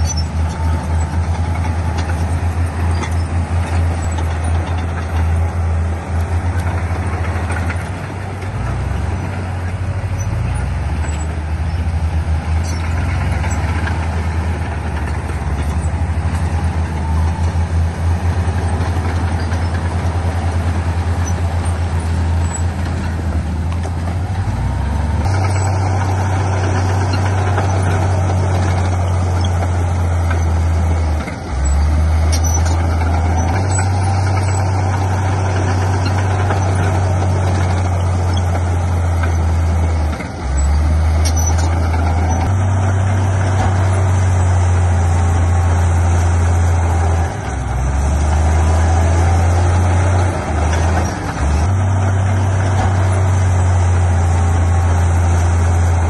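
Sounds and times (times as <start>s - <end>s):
heavy diesel machinery engine drone: 0.0s - 56.0s.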